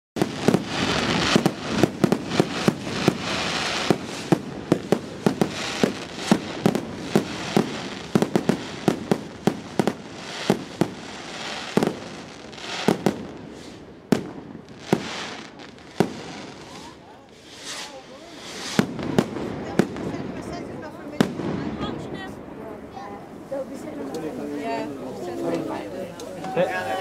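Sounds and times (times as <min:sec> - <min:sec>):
fireworks bangs: 0:00.2 - 0:22.6
hiss of burning fireworks: 0:00.2 - 0:22.6.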